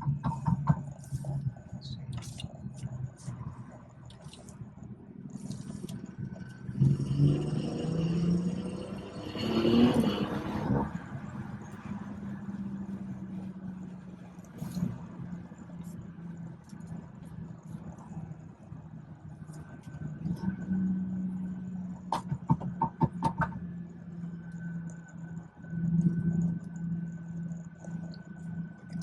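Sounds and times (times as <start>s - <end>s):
car engine droning while driving: 0.0s - 29.0s.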